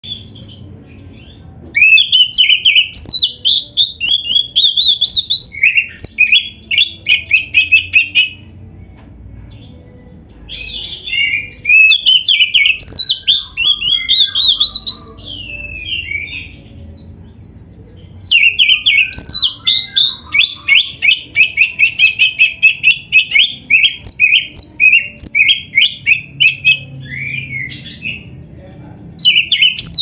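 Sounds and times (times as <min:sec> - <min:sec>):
bird singing whistles and trills: 0:00.0 - 0:08.6, 0:10.4 - 0:28.5, 0:29.1 - 0:30.0.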